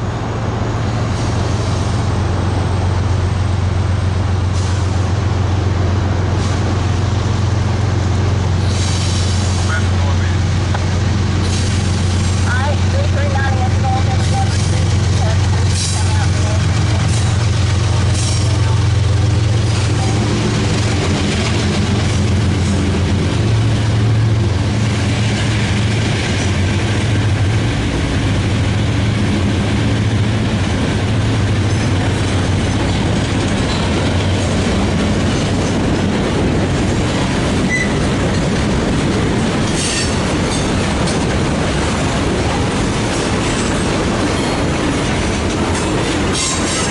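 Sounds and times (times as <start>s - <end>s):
diesel locomotive engine droning: 0.0s - 46.9s
train cars rumbling on rails: 0.0s - 46.9s.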